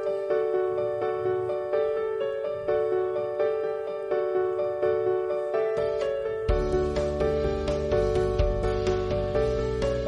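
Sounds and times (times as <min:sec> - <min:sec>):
gentle piano melody: 0:00.0 - 0:10.0.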